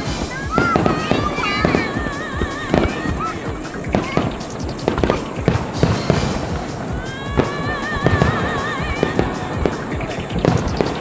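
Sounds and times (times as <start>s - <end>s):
firework shells bursting: 0.0s - 11.0s
music playing: 0.0s - 11.0s.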